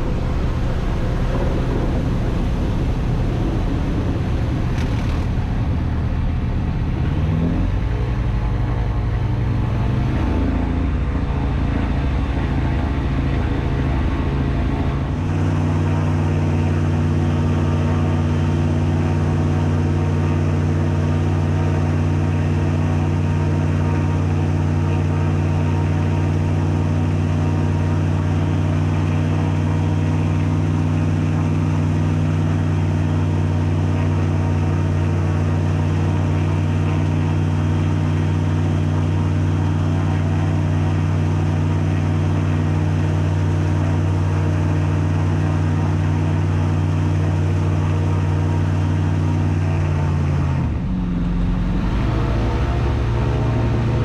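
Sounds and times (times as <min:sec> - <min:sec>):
plane propeller engine: 0:00.0 - 0:54.0
rush of wind and water: 0:00.0 - 0:54.0.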